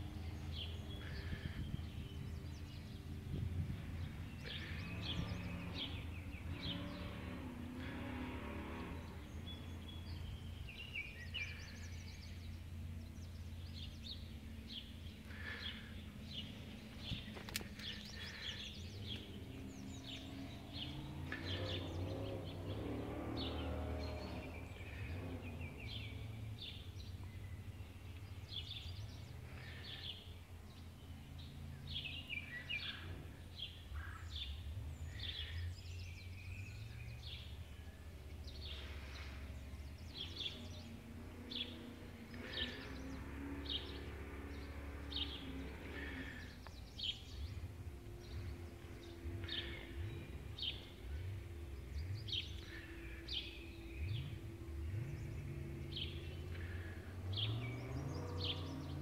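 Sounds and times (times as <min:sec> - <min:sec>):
birds chirping: 0:00.0 - 0:59.0
low outdoor rumble: 0:00.0 - 0:59.0.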